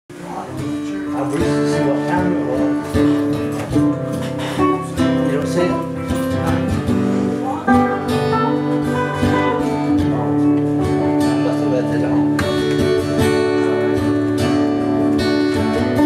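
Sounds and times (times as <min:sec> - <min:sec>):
acoustic guitar strumming chords: 0:00.2 - 0:16.0
electric guitar lead line: 0:00.2 - 0:16.0.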